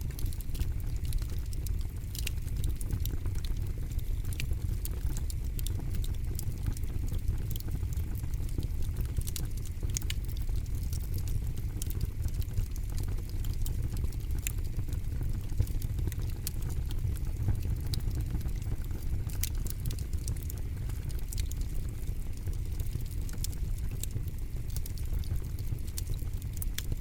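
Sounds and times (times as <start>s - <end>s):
flame rumbling: 0.0s - 27.0s
wood crackling and popping: 0.0s - 27.0s.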